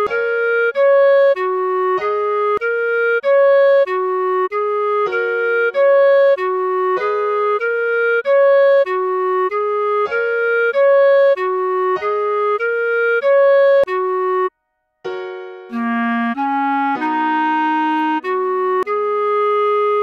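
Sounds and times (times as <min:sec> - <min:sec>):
solo clarinet melody: 0:00.0 - 0:20.0.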